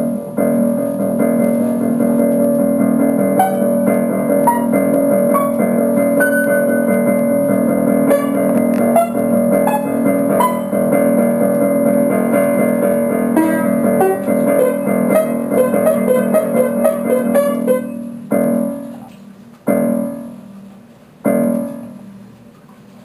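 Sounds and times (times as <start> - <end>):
piano music: 0.0 - 22.4.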